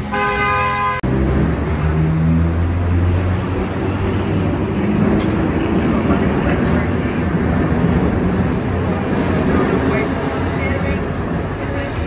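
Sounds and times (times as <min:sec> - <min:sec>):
streetcar rumble and hum: 0:00.0 - 0:12.0.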